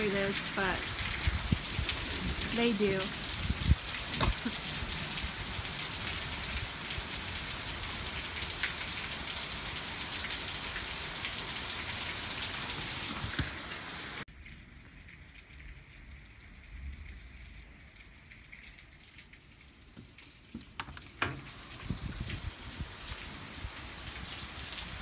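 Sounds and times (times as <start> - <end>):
patter of raindrops: 0.0 - 25.0
rain falling steadily: 0.0 - 25.0.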